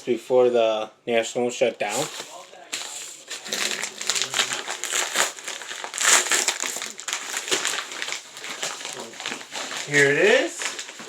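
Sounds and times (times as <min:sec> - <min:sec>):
packaging crinkling and rustling: 0:01.8 - 0:11.0.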